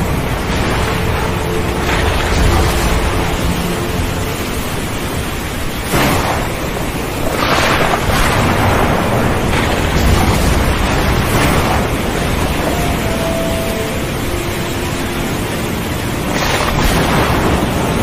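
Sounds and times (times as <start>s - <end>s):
heavy waves breaking: 0.0s - 18.0s
wind: 0.0s - 18.0s.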